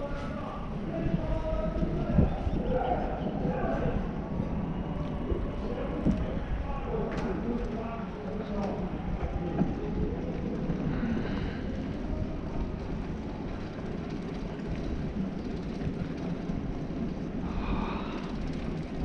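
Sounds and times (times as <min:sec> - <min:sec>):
wind and road rumble: 0:00.0 - 0:19.0.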